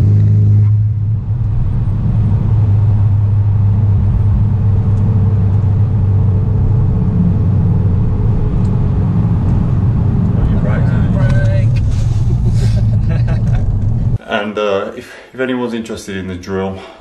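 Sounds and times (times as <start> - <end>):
car engine drone: 0.0 - 14.2
road and tyre rumble: 0.0 - 14.2.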